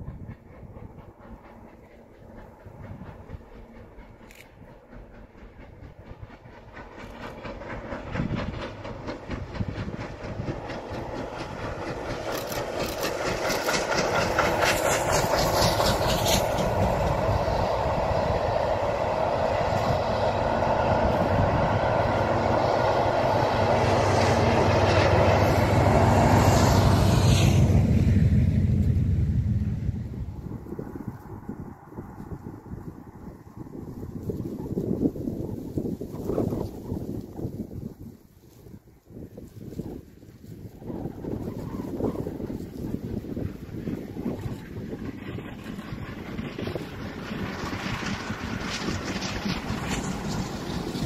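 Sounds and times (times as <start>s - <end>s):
diesel locomotive drone: 0.0s - 51.0s
steam locomotive exhaust beat: 0.0s - 51.0s
train carriages rumbling on rails: 0.0s - 51.0s.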